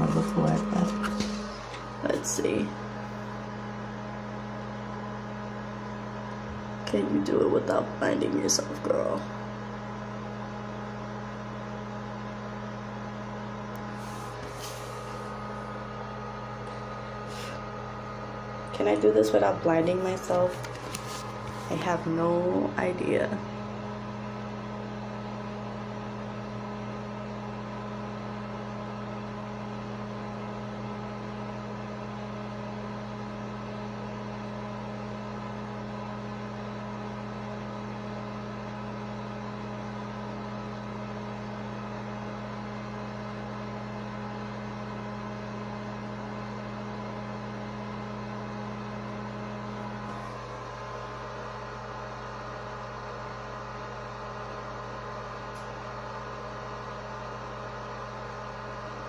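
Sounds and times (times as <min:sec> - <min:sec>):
steady machine hum: 0:00.0 - 0:59.0.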